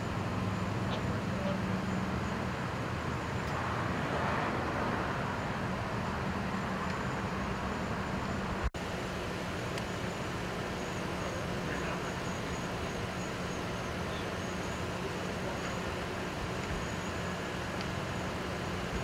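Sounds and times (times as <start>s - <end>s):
road noise: 0.0s - 19.0s
vehicle engines idling: 0.0s - 19.0s.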